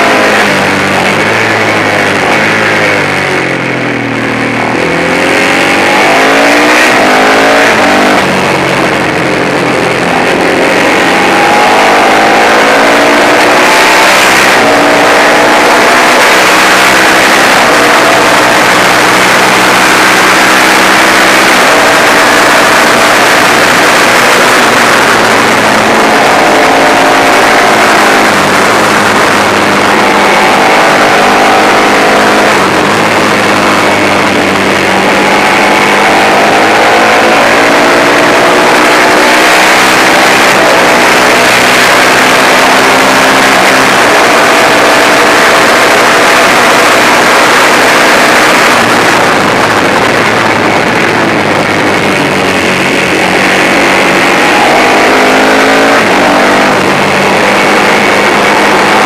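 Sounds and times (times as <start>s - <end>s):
racing motorcycle engine accelerating: 0.0s - 59.0s
wind noise: 0.0s - 59.0s.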